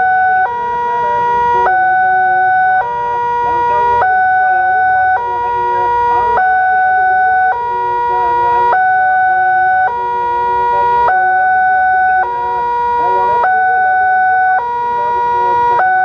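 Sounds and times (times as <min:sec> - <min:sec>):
level-crossing two-tone alarm: 0:00.0 - 0:16.0.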